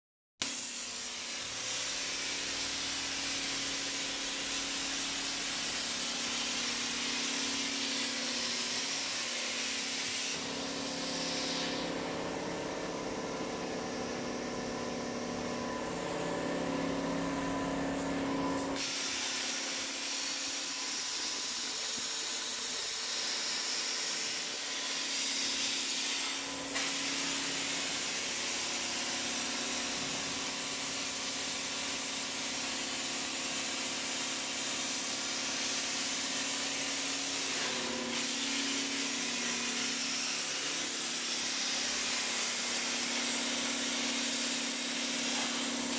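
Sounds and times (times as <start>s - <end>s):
plasma cutter arc hissing: 0.4s - 14.2s, 17.1s - 45.9s.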